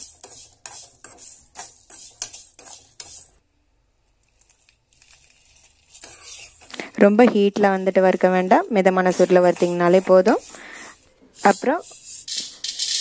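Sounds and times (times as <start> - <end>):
metal spatula scraping a pan: 0.0 - 3.4, 5.1 - 13.0.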